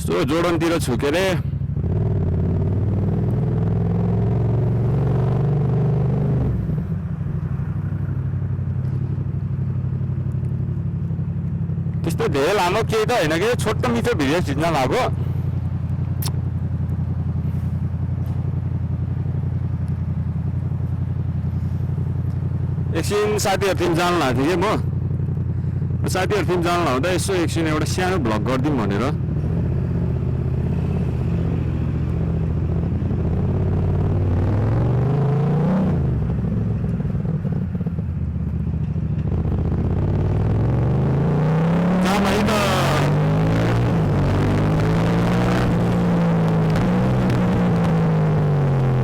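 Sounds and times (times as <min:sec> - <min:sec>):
vehicle engine running steadily: 0:00.0 - 0:49.0.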